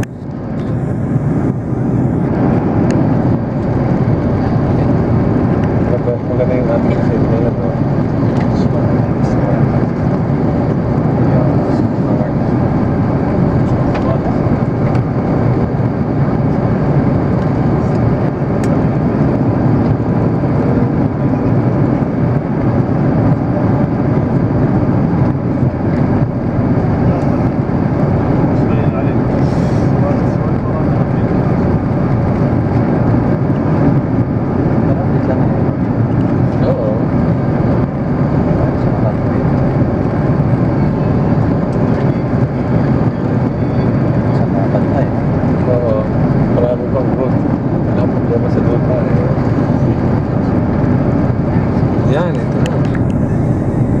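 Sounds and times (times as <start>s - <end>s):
airliner cabin engine rush: 0.0s - 54.0s.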